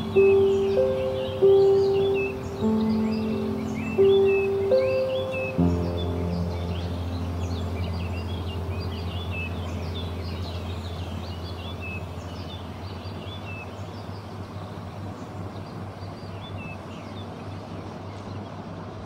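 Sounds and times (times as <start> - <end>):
steady low hum: 0.0 - 15.6
small birds chirping: 0.0 - 19.0.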